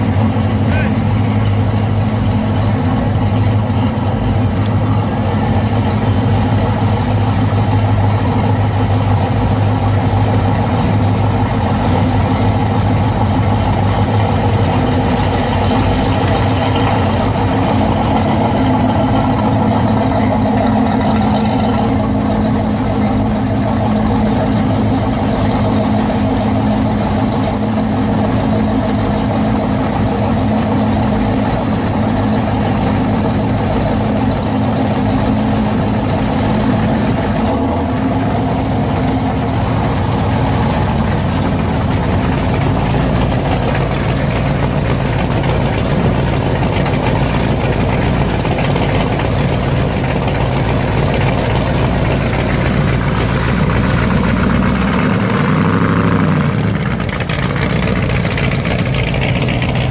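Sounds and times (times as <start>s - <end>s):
car engines running at low speed: 0.0s - 59.9s.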